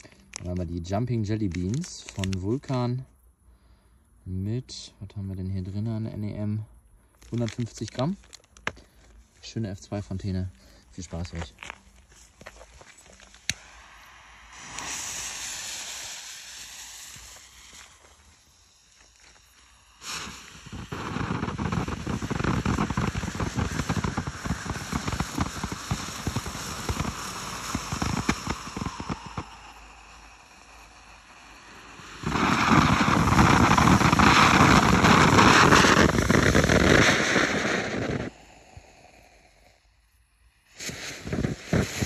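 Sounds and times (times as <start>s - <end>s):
firework fountain crackling and hissing: 0.0s - 3.0s, 7.2s - 42.0s.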